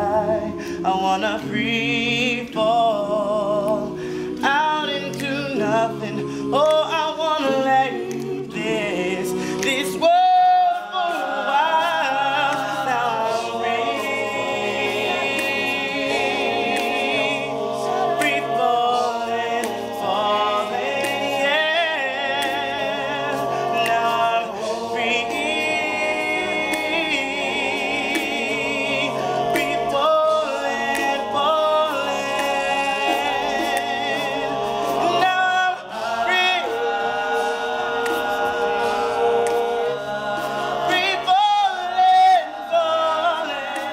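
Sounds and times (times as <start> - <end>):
lead voice singing with vibrato: 0.0 - 43.9
male group singing backing chords: 0.0 - 43.9.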